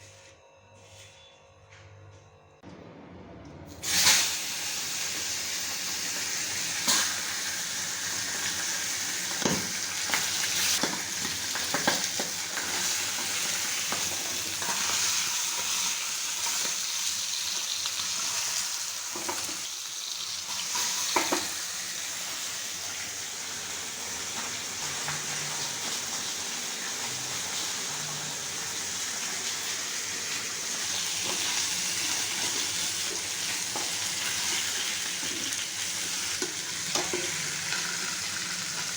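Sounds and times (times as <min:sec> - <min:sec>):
food sizzling in hot oil: 0:03.8 - 0:38.9.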